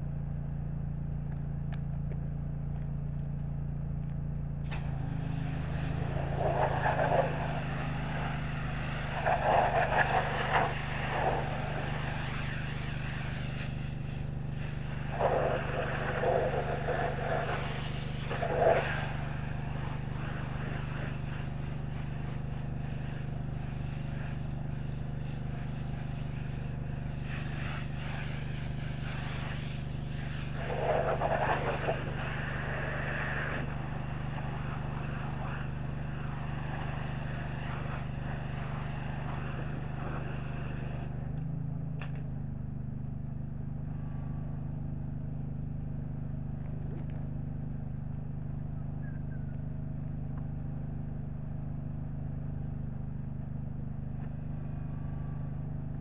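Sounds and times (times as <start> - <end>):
pressure washer engine droning: 0.0 - 56.0.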